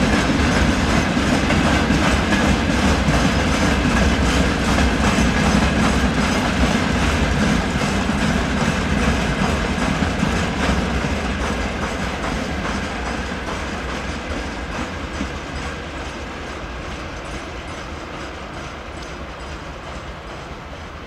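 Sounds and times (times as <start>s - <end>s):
freight train rolling past: 0.0s - 21.0s
wheels clicking over rail joints: 0.0s - 21.0s.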